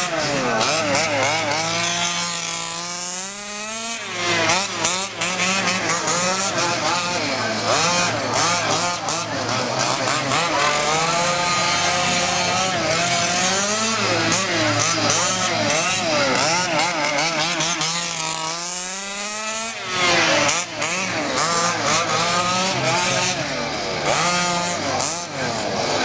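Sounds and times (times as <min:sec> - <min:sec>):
small two-stroke engine revving: 0:00.0 - 0:26.0.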